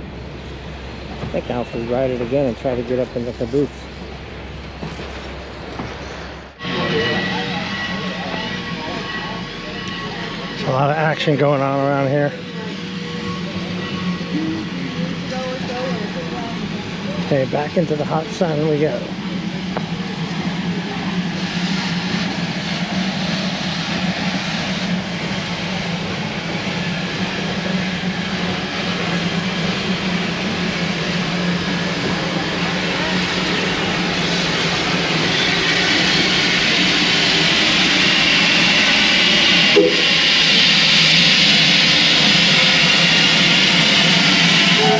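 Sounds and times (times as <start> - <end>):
locomotive low drone: 0.0 - 44.9.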